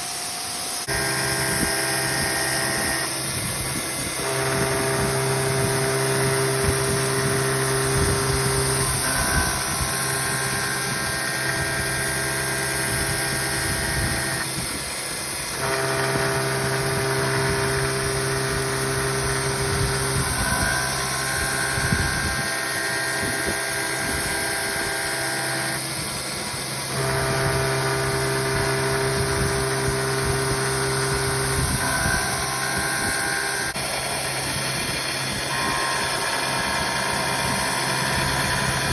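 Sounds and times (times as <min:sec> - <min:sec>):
mill cutting steel whine: 0:00.0 - 0:38.9.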